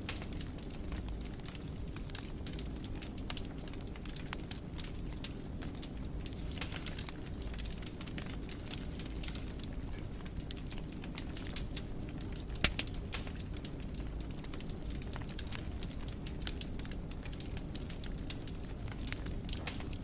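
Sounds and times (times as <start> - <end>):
wood fire burning in fireplace: 0.0 - 20.0.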